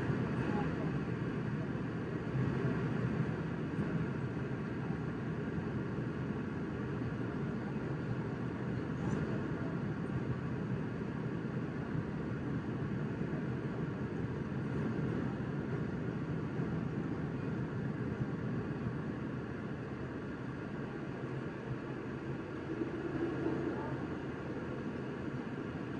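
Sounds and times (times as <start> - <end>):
jet cabin engine drone: 0.0 - 25.9.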